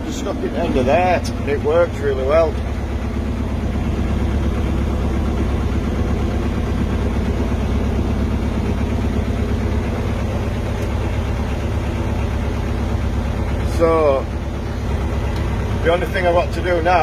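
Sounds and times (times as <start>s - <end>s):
boat diesel engine throbbing: 0.0s - 17.0s.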